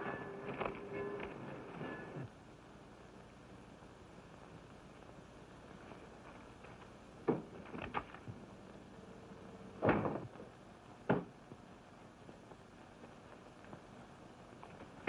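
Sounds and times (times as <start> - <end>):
faint film hiss: 0.0 - 15.0.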